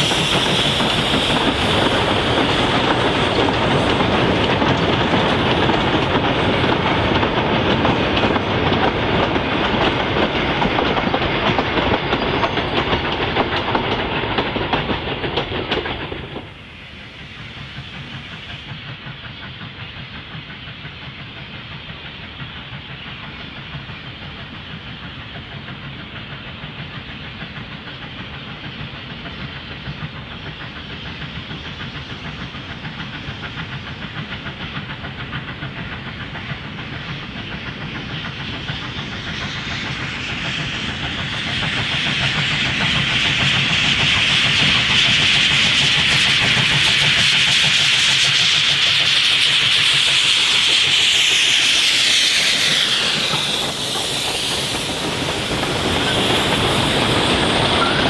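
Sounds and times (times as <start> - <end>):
distant steam locomotive: 0.0 - 58.0
train wheels clicking over rail joints: 0.0 - 58.0.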